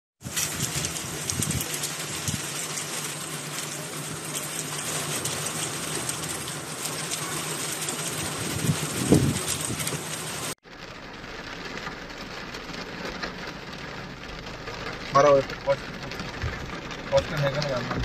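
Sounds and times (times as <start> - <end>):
heavy rain falling: 0.2 - 18.0.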